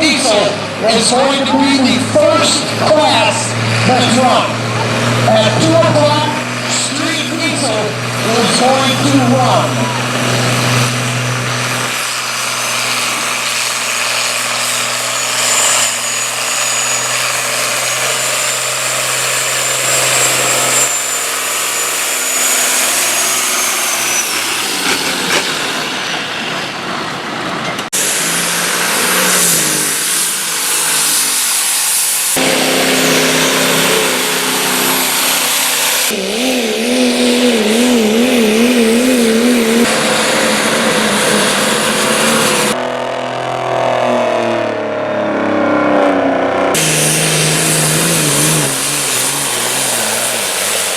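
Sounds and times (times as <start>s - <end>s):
engines running hard under load: 0.0s - 50.9s.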